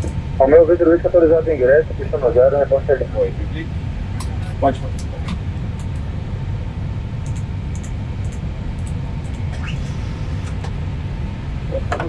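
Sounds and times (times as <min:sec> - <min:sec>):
aircraft engines idling: 0:00.0 - 0:12.0.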